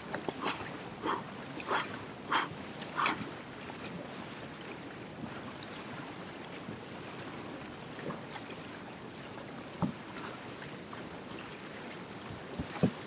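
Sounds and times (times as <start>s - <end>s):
fast river current rushing: 0.0s - 13.0s
kayak paddle splashing: 0.0s - 13.0s.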